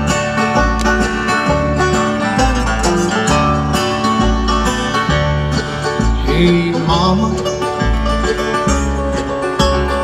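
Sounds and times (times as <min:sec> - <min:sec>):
bluegrass band playing: 0:00.0 - 0:10.0
low bass notes: 0:00.0 - 0:10.0
picked acoustic strings: 0:00.0 - 0:10.0.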